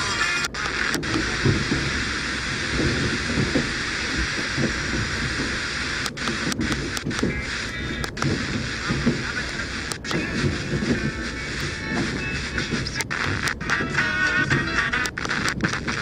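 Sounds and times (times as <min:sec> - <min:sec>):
low irregular rumble: 0:00.0 - 0:16.0
radio static hiss: 0:00.0 - 0:16.0.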